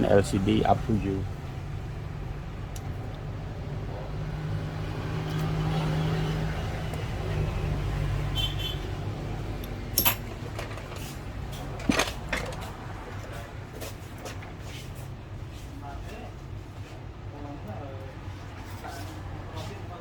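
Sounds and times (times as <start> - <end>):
low engine-like rumble: 0.0 - 18.2.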